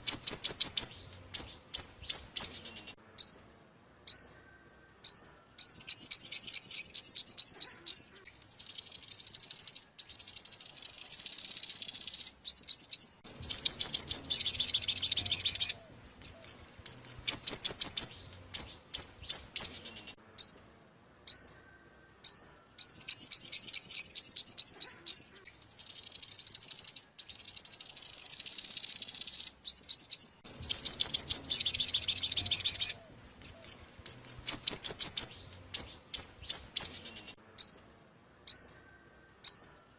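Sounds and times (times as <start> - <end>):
bird chirps and buzzy trills: 0.0 - 39.9.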